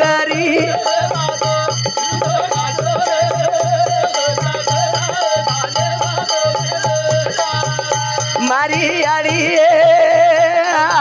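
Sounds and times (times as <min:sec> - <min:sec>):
jingling percussion: 0:00.0 - 0:11.0
person singing: 0:00.0 - 0:11.0
regular drum beat: 0:00.0 - 0:11.0
wavering melody over held tones: 0:00.0 - 0:11.0.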